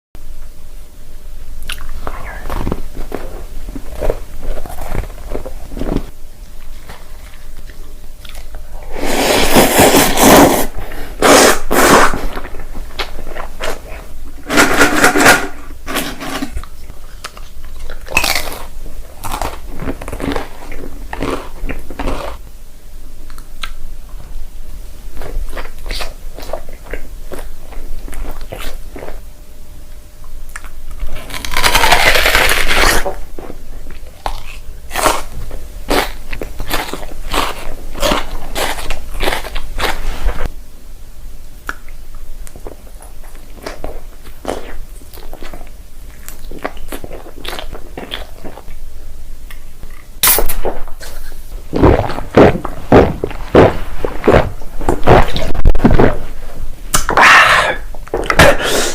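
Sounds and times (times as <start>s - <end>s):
crunchy food being chewed: 1.6s - 22.4s, 25.1s - 29.2s, 29.9s - 40.5s, 41.6s - 48.9s, 49.5s - 57.2s.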